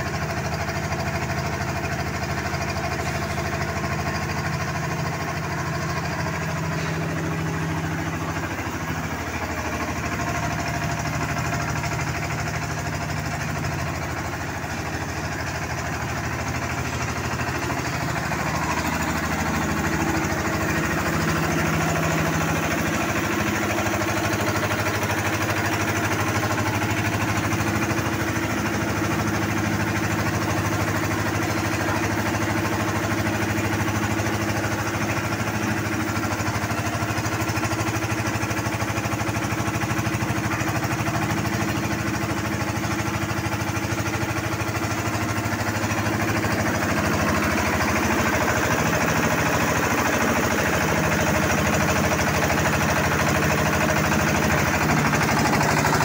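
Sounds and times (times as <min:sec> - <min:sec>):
concrete mixer engine running: 0:00.0 - 0:56.0.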